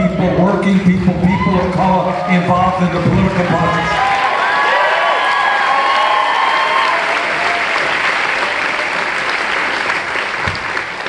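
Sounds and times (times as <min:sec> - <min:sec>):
crowd cheering: 0:00.3 - 0:11.0
crowd applauding: 0:01.2 - 0:11.0.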